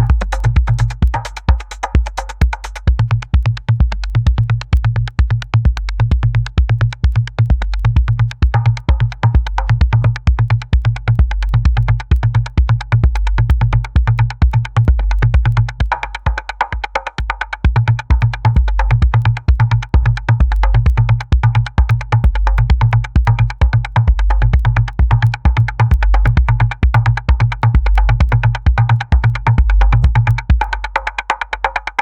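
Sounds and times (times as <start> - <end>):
heavy bass line: 0.0 - 16.3, 17.7 - 30.6
drum machine beat: 0.0 - 32.0.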